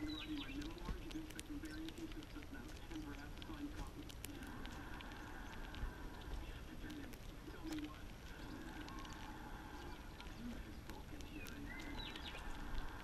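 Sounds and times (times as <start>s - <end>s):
doves cooing: 0.0s - 13.0s
small bird chirping: 0.0s - 13.0s
squirrel cracking seeds clicks: 0.0s - 13.0s.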